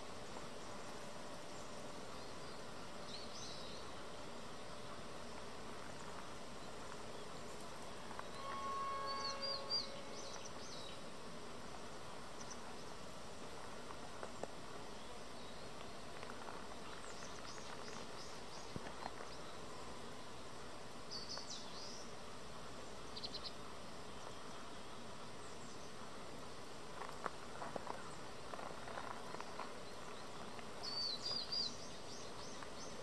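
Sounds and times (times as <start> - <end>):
faint hiss: 0.0 - 33.0.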